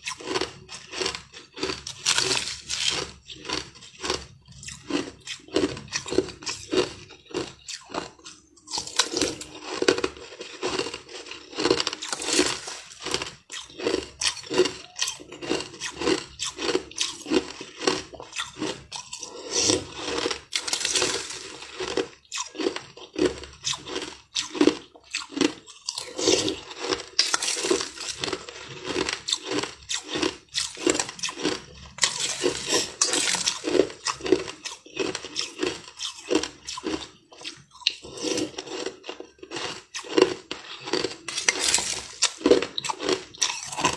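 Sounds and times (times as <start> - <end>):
ice crunched and chewed: 0.0 - 43.9.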